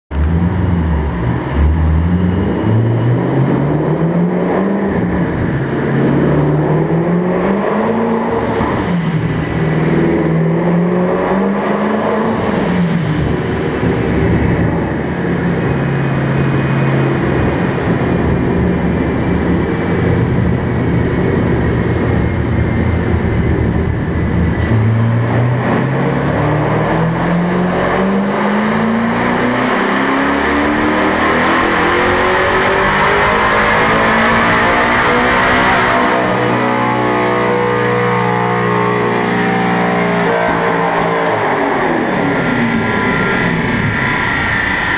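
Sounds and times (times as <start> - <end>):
car engine revving on dyno: 0.1 - 44.9.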